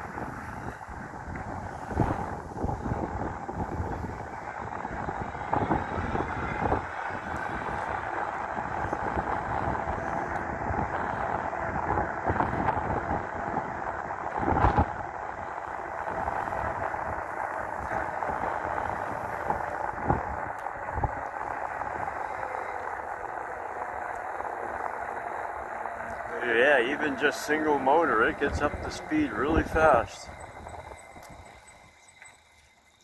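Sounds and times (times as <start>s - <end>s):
wind noise on microphone: 0.0s - 33.0s.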